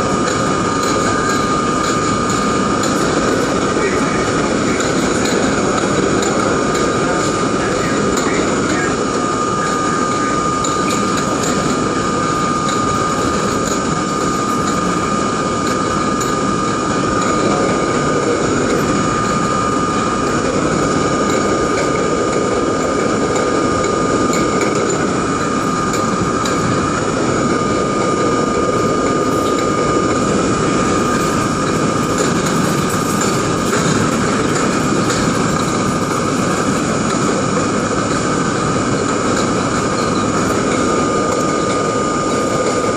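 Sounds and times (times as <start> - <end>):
high whine: 0.0 - 42.9
wheels rumbling on track: 0.0 - 42.9.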